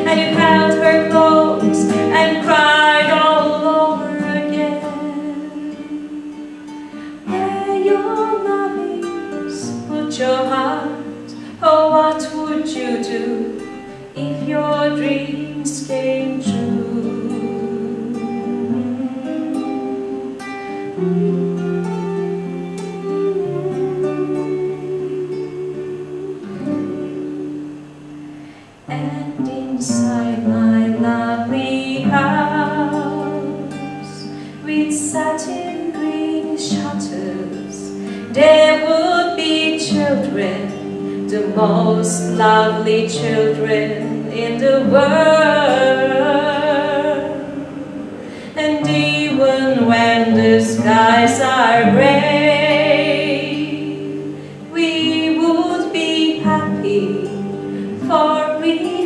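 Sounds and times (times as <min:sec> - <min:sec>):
classical guitar: 0:00.0 - 0:59.0
woman singing with vibrato: 0:00.0 - 0:59.0.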